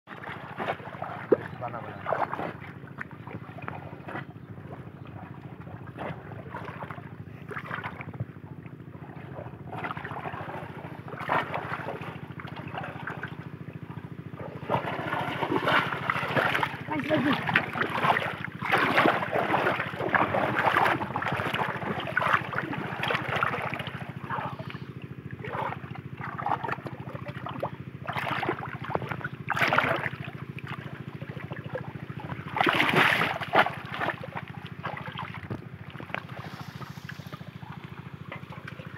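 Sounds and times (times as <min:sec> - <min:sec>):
muddy water splashing: 0:00.1 - 0:38.9
steady low hum: 0:00.1 - 0:38.9.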